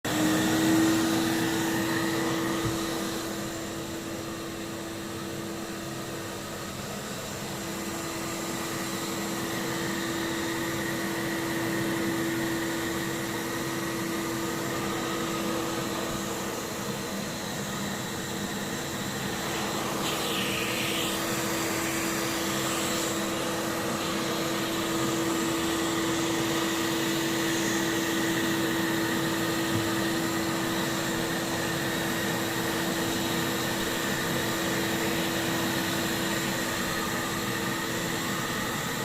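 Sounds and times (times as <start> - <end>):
vacuum cleaner motor humming: 0.0 - 39.0.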